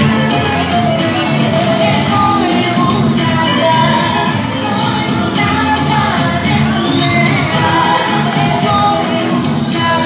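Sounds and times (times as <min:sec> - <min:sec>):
amplified instrumental accompaniment: 0:00.0 - 0:10.0
girl singing into microphone: 0:01.7 - 0:10.0.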